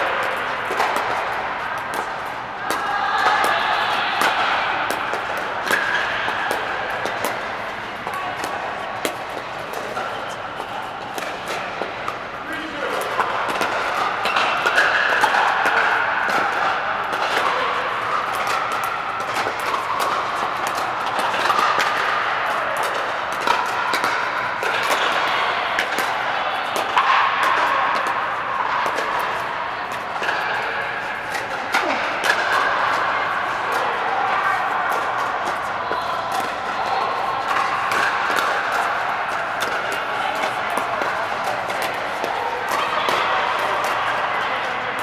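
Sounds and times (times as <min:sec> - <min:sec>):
paddles striking plastic balls: 0:00.0 - 0:34.1, 0:34.9 - 0:44.2
many voices in a dome: 0:00.0 - 0:45.0.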